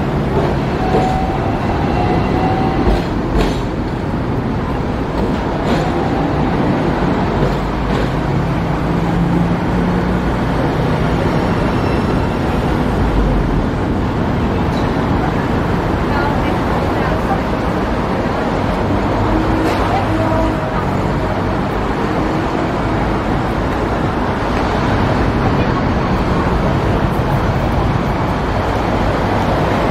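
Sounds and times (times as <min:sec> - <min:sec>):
city traffic: 0:00.0 - 0:29.9
tram rumbling on tracks: 0:00.0 - 0:29.9.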